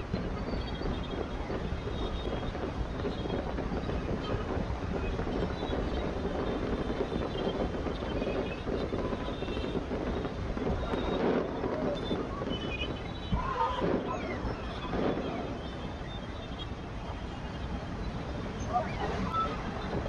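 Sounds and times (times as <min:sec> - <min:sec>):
fireworks rumble: 0:00.0 - 0:20.0
wind buffeting microphone: 0:00.0 - 0:20.0.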